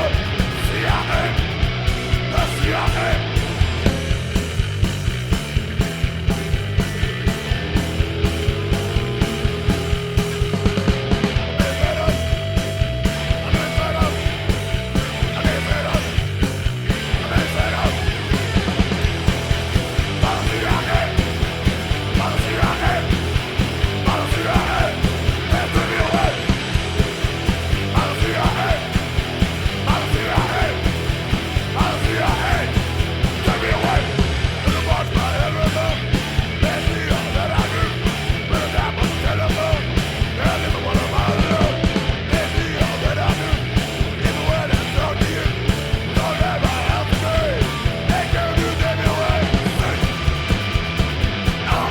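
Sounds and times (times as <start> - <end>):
bass guitar: 0.0 - 51.9
distorted electric guitar: 0.0 - 51.9
fast drum beat: 0.0 - 51.9.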